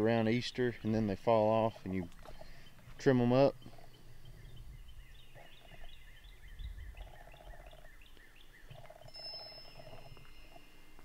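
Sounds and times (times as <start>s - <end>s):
bird song: 0.3s - 11.0s.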